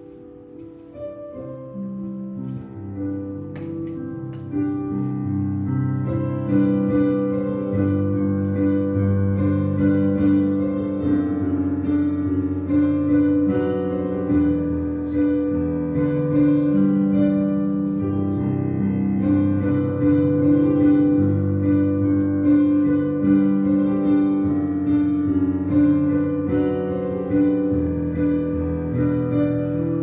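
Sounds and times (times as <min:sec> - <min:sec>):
slow keyboard music: 0:00.0 - 0:30.0.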